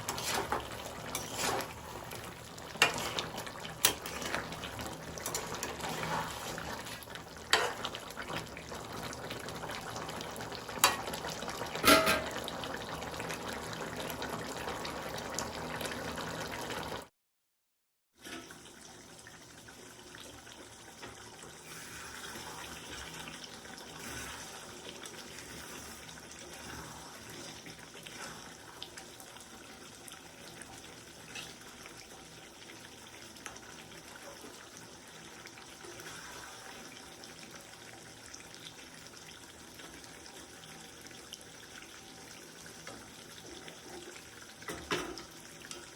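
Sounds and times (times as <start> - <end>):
water running and bubbling: 0.0 - 17.1, 18.4 - 45.9.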